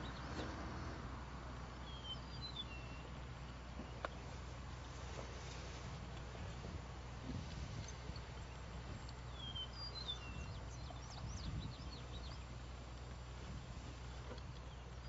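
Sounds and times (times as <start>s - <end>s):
small birds chirping: 0.0s - 1.0s, 1.7s - 15.0s
steady low hum: 0.0s - 15.0s.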